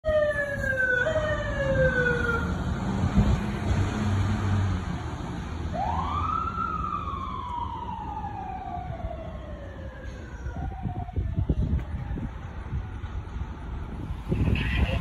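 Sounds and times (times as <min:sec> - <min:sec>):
fire engine siren: 0:00.0 - 0:12.6.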